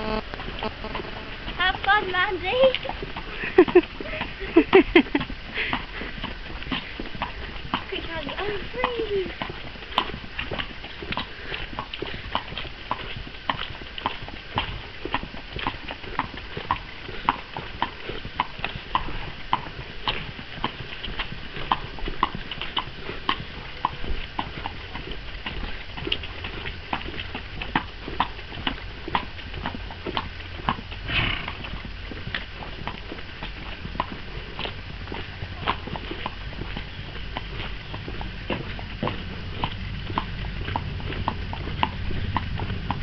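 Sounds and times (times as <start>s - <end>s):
horse hooves clip-clopping on tarmac: 0.0s - 43.0s.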